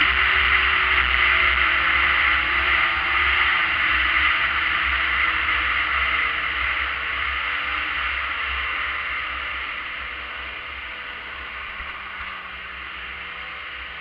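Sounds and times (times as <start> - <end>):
snowmobile running at speed: 0.0 - 14.0.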